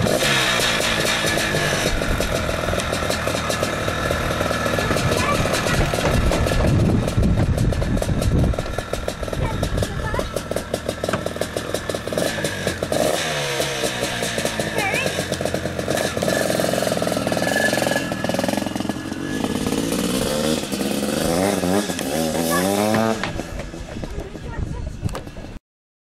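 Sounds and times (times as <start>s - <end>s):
dirt bike engine revving: 0.0s - 25.6s.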